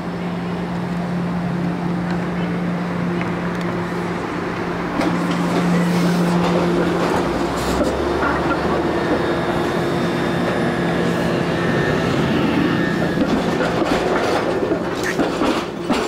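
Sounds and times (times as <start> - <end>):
streetcar electric hum: 0.0 - 16.0
steel wheels rolling on rails: 0.6 - 16.0.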